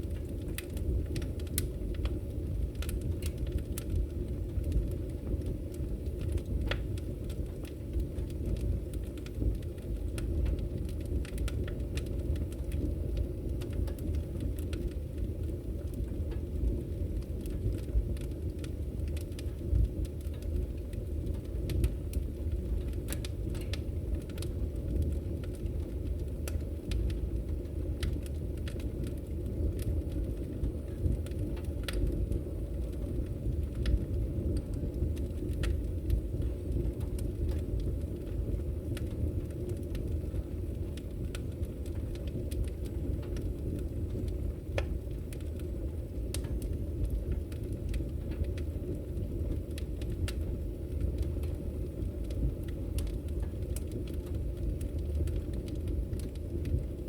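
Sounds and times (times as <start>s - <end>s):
firewood burning: 0.0s - 57.0s
wood crackling and popping: 0.0s - 57.0s.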